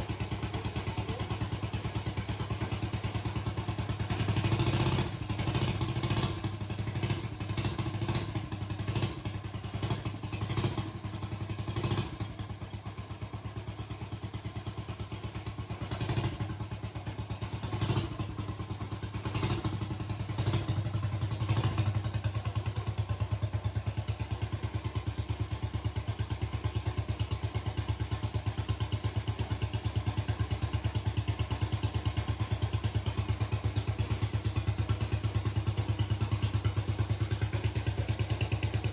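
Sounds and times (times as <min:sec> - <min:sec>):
small diesel engine running: 0:00.0 - 0:38.9.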